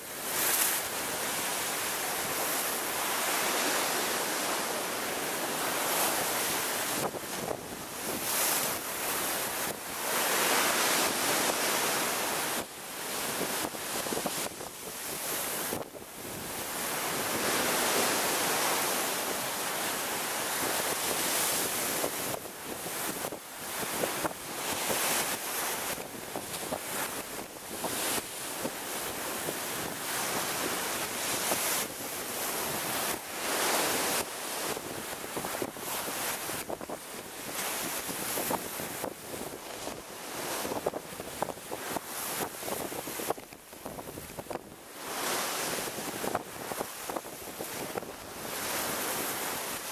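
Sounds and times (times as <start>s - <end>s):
waves crashing against sea wall: 0.0s - 49.9s.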